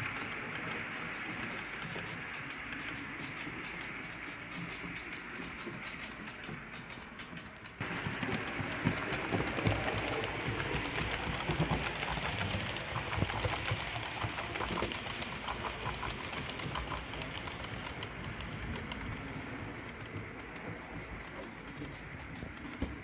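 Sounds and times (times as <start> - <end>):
model train rattling on track: 0.0 - 23.0.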